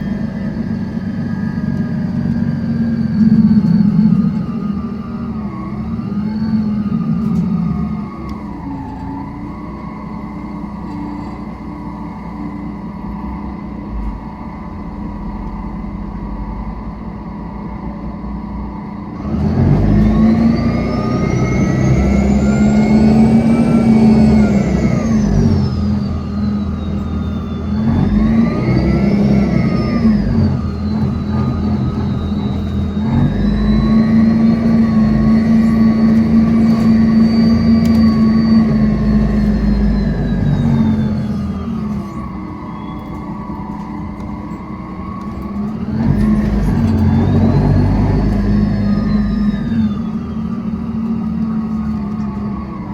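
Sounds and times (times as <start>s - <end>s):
bus diesel engine accelerating: 0.0s - 52.9s
high engine whine: 0.0s - 52.9s.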